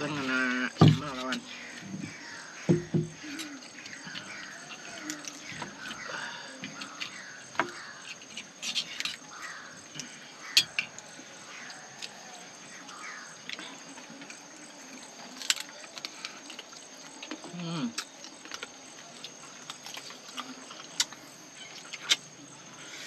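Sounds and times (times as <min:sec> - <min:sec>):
high insect trill: 0:00.0 - 0:23.0.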